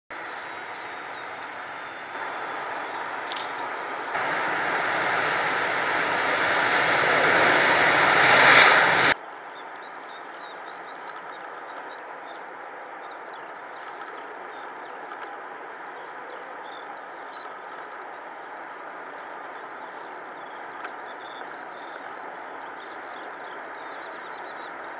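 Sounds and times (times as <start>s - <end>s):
airplane rumble: 0.1s - 24.9s
loud jet engines: 0.2s - 24.9s.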